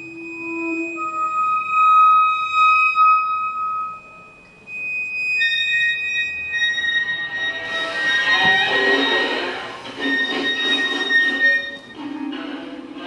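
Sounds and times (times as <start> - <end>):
chamber music sustained high tones: 0.0 - 13.0.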